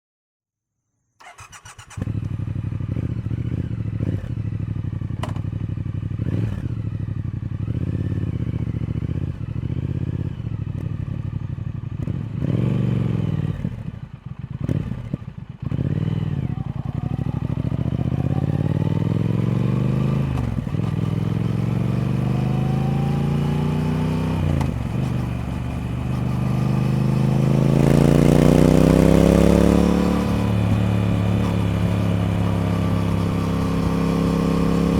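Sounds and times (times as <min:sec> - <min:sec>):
motorcycle accelerating through gears: 0:01.2 - 0:34.9
motorcycle engine idling and revving: 0:01.2 - 0:34.9.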